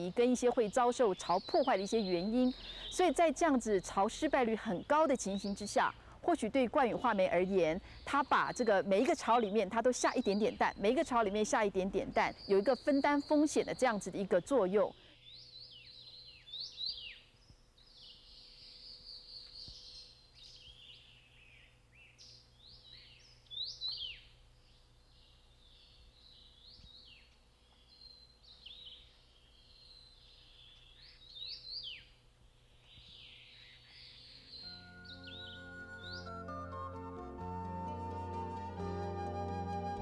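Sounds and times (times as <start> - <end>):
songbirds chattering: 0.0 - 36.6.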